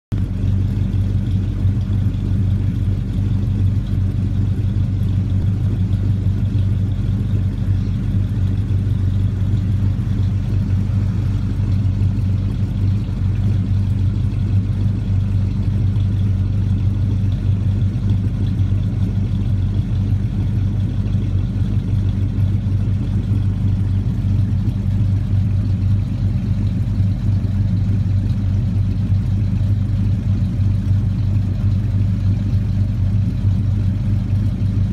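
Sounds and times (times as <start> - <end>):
pickup engine idling: 0.1 - 34.9.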